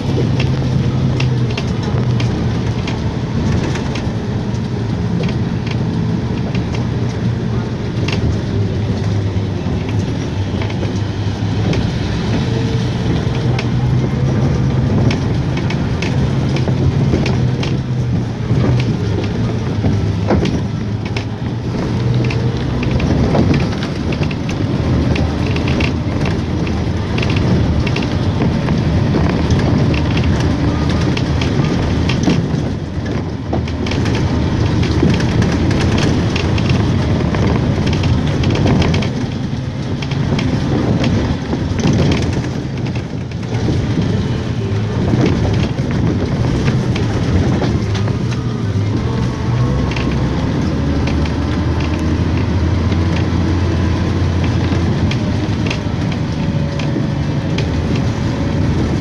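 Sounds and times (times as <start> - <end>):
low engine hum: 0.0 - 59.0
vehicle rattling on rough road: 0.0 - 59.0.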